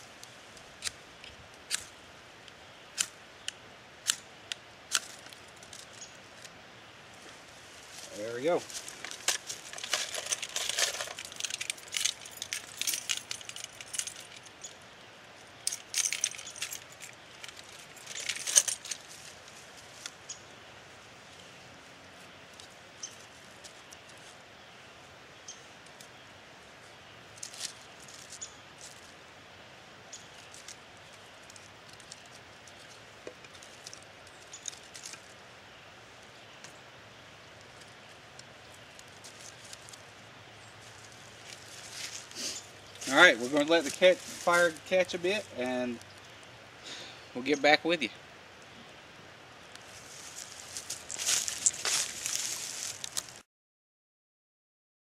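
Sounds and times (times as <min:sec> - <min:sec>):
fire crackling: 0:00.0 - 0:47.4, 0:48.2 - 0:53.4.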